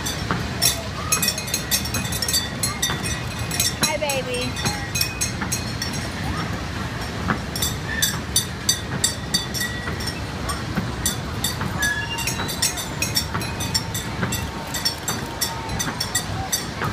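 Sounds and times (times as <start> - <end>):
ride rumbling on track: 0.0 - 16.9.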